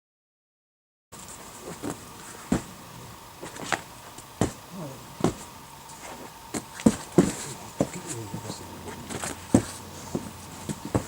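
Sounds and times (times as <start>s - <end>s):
faint background hum: 1.2s - 11.0s.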